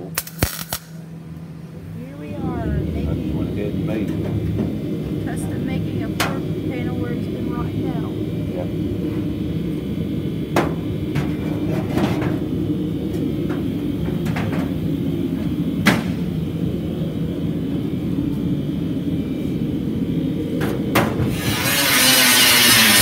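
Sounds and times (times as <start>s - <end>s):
low workshop rumble: 0.0s - 23.0s.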